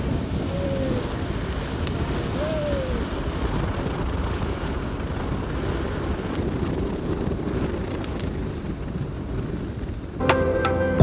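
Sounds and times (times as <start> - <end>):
wind noise: 0.0 - 10.2.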